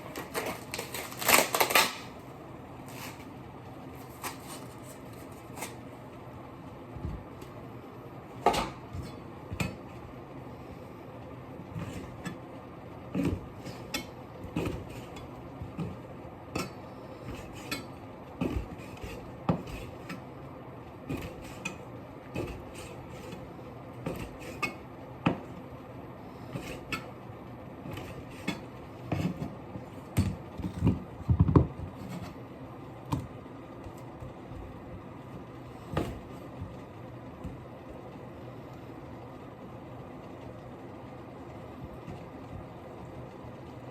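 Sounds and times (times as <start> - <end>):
steady background hum: 0.0 - 43.9.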